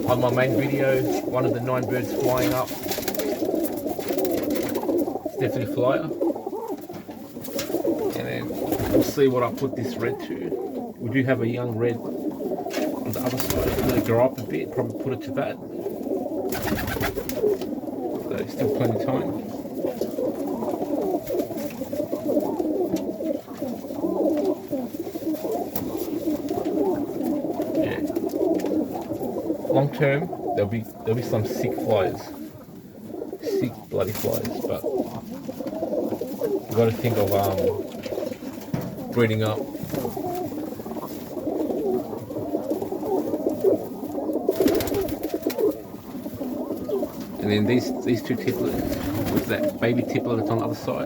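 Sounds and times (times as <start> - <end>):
pigeons cooing: 0.0 - 51.0.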